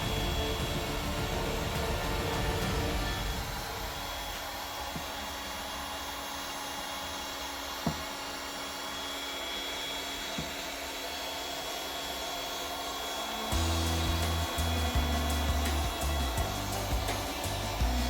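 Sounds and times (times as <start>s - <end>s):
hot-air blower running with whine: 0.0s - 18.0s.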